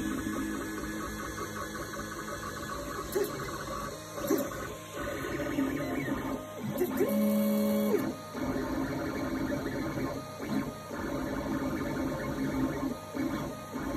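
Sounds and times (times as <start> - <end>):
printer stepper motors whirring: 0.0 - 13.9.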